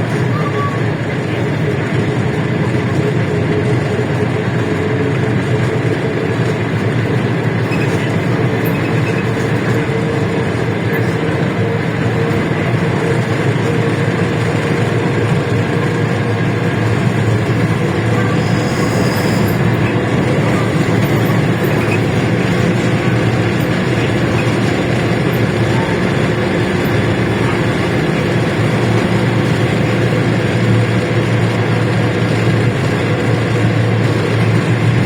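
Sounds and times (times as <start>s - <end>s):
bus engine running: 0.0s - 35.0s
road and body rumble: 0.0s - 35.0s
steady whine: 0.0s - 35.0s.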